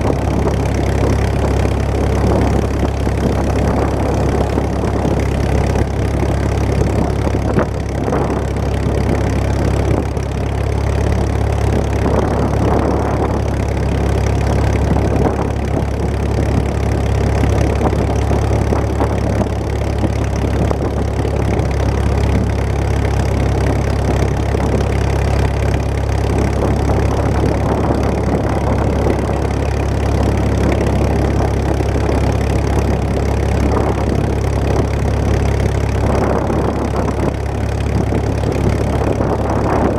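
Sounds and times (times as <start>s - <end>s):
tractor engines rumbling: 0.0s - 39.9s.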